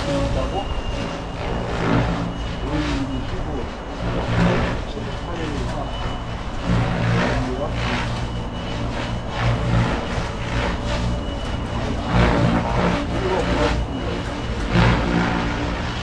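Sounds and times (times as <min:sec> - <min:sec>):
helicopter rotor whooshing: 0:00.0 - 0:16.0
steady low rumble: 0:00.0 - 0:16.0.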